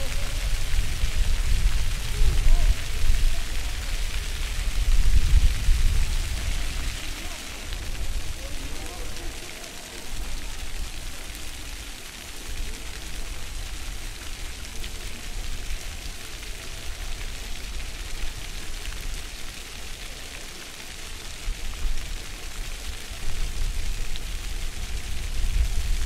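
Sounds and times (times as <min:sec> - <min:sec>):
water jets splashing on stone: 0:00.0 - 0:26.0.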